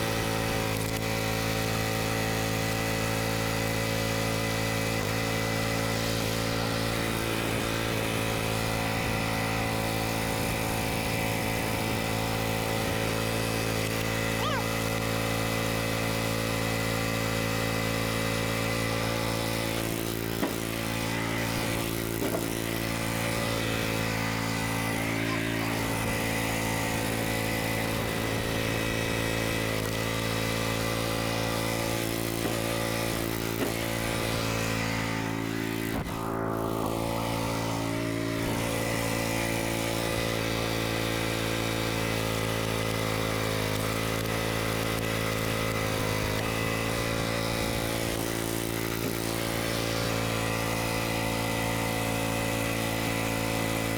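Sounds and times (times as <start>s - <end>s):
small gasoline engine idling: 0.0s - 53.9s.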